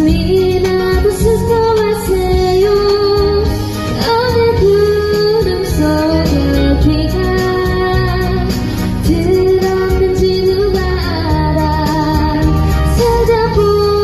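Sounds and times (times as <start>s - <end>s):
child singing: 0.0s - 8.4s, 9.1s - 14.0s
backing music: 0.0s - 14.0s.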